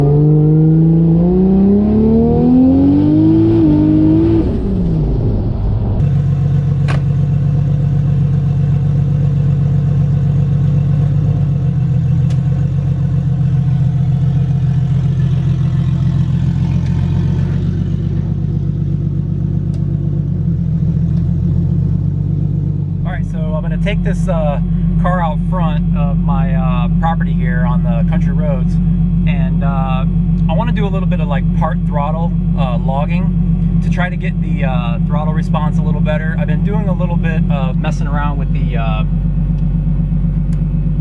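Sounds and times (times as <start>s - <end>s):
turbocharged engine accelerating: 0.0s - 41.0s.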